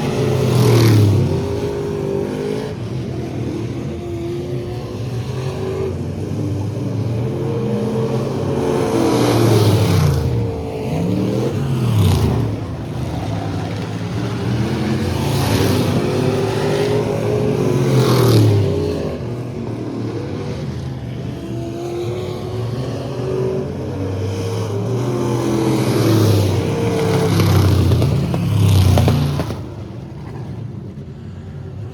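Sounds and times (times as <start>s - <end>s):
racing truck engines passing: 0.0s - 31.9s.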